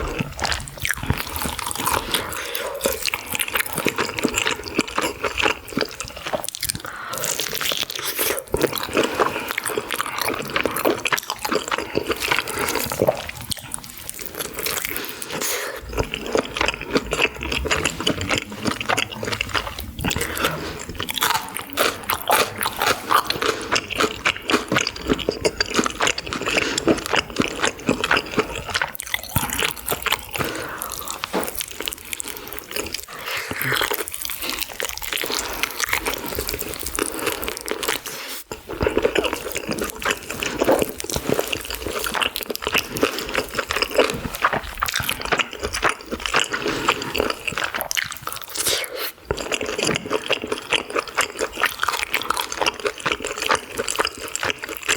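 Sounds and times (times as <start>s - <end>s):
chewing and biting: 0.0s - 54.9s
wet mouth noises: 10.0s - 54.9s.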